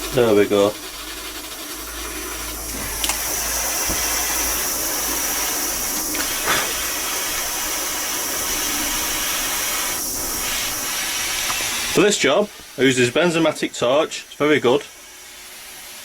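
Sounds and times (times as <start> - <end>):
gas torch flame hissing: 0.0 - 16.0.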